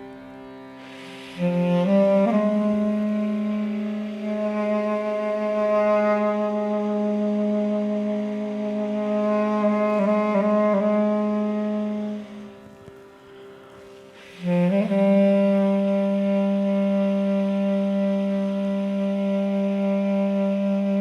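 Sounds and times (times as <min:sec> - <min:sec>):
held note with rich overtones: 0:00.0 - 0:21.0
note with upward slide: 0:00.0 - 0:21.0.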